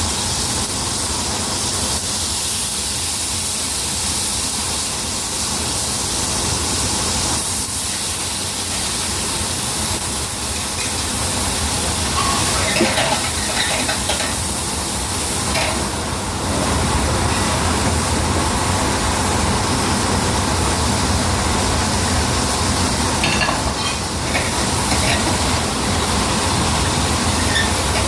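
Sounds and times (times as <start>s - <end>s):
meat sizzling in frying pan: 0.0s - 28.0s.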